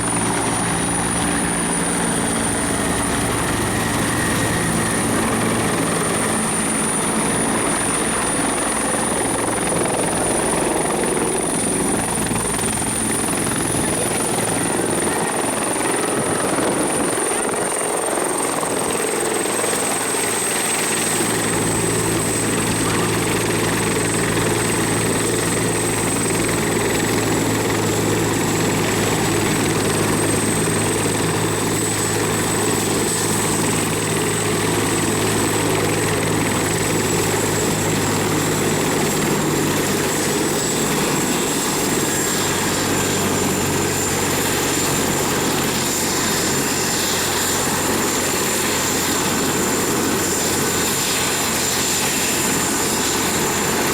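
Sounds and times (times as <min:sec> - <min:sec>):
helicopter engines and rotor: 0:00.0 - 0:53.9.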